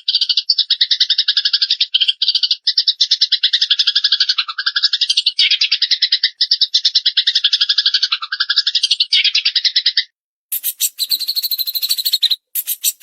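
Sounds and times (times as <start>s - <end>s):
songbird chattering trill: 0.0s - 13.0s.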